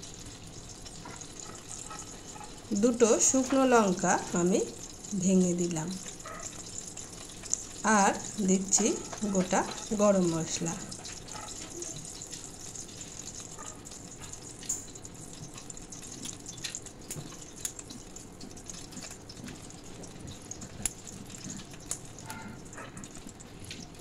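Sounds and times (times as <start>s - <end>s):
hot oil sizzling: 0.0s - 24.0s
spices crackling and popping: 0.0s - 24.0s.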